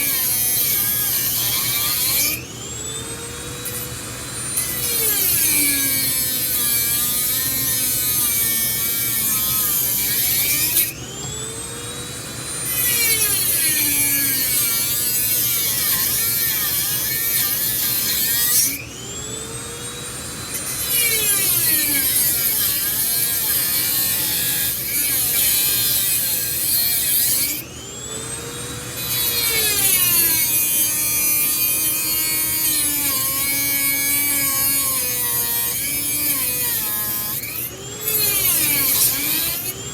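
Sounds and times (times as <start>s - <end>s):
rotary tool cutting metal: 0.0s - 39.9s.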